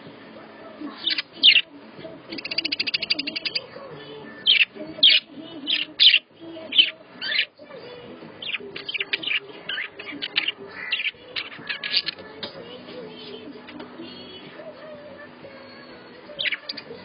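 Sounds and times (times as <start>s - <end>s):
birds chirping: 0.8s - 17.0s.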